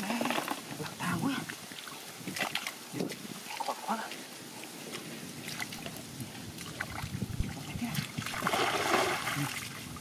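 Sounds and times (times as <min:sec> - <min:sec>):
muddy water splashing: 0:00.0 - 0:10.0.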